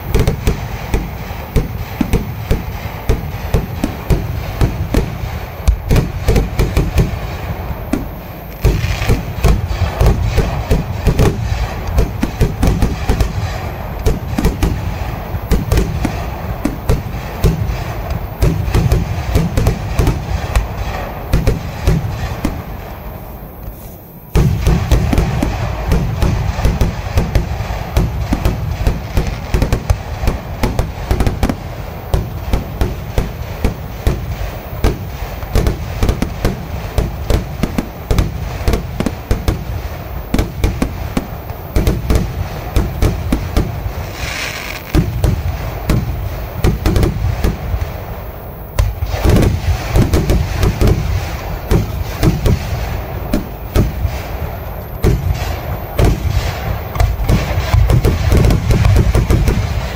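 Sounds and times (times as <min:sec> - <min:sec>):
fireworks bangs: 0:00.0 - 0:59.9
fireworks hiss: 0:00.0 - 0:59.9.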